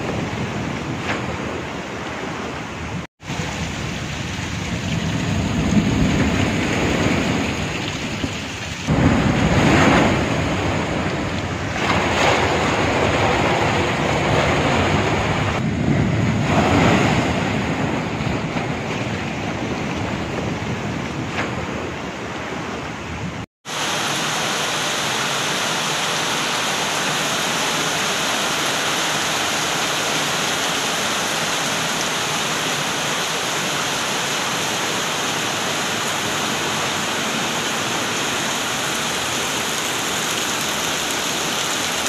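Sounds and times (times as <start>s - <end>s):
seawater rushing: 0.0s - 42.0s
waves breaking over seawall: 0.0s - 42.0s.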